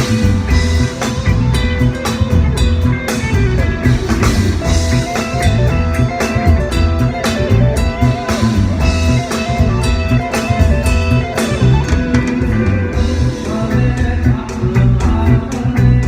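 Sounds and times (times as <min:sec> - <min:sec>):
bass: 0:00.0 - 0:16.0
drum kit: 0:00.0 - 0:16.0.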